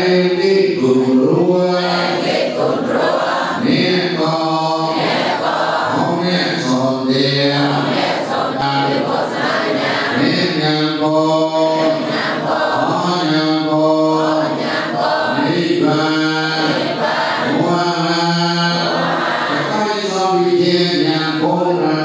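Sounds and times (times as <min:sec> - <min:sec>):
congregation chanting in unison: 0:00.0 - 0:22.0.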